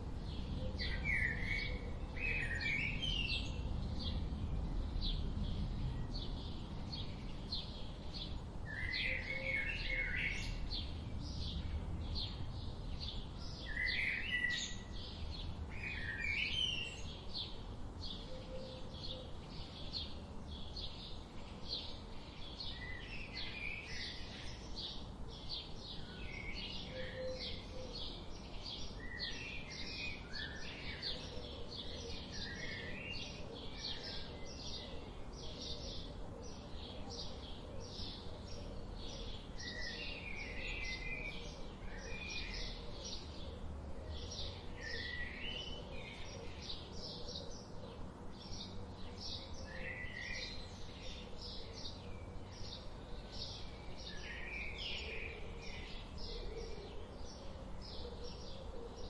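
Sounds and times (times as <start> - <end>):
songbird high chirps: 0.1 - 59.0.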